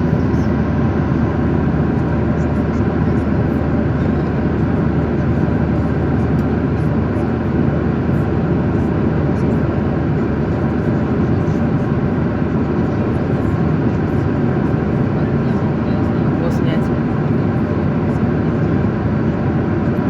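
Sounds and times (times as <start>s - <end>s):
jet airliner cabin drone: 0.0s - 20.0s.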